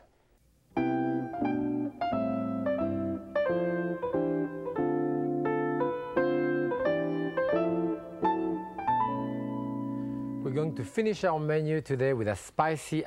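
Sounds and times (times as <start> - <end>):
piano music: 0.7 - 11.5.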